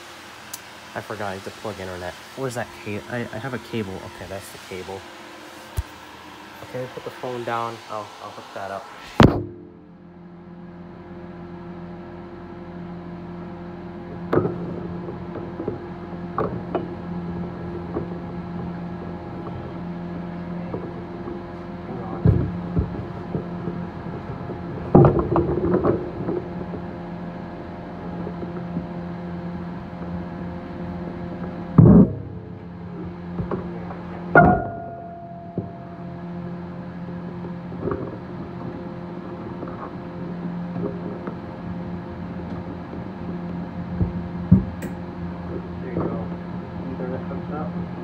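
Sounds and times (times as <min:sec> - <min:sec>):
computer fans humming: 0:00.0 - 0:48.0.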